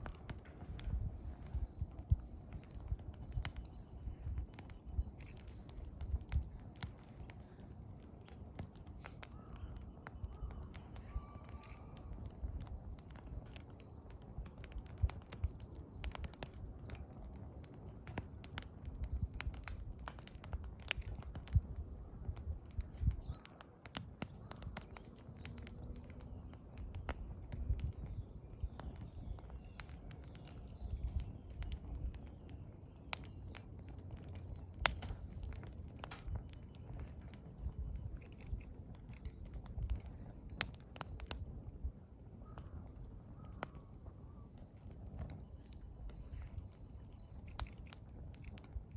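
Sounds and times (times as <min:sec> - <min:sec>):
bird chirping: 0:00.0 - 0:19.8, 0:22.6 - 0:41.4, 0:43.4 - 0:48.8
campfire crackling and popping: 0:00.0 - 0:48.9.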